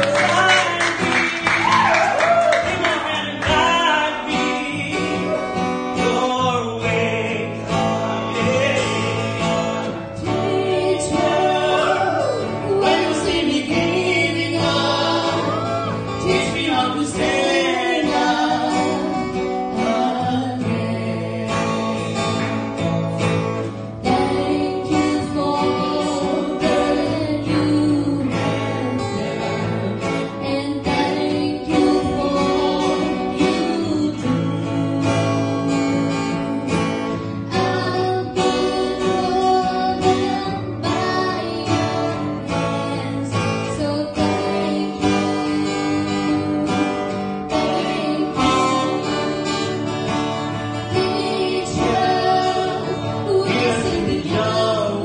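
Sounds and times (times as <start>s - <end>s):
man and woman singing: 0.0s - 22.6s, 23.8s - 36.4s, 37.2s - 50.0s, 50.6s - 55.0s
guitar accompaniment: 0.0s - 55.0s.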